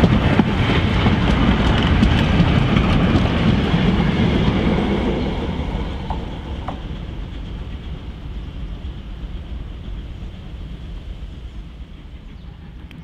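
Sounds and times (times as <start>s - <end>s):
train rolling past on rails: 0.0s - 13.0s
wheels clicking over rail joints: 0.0s - 13.0s.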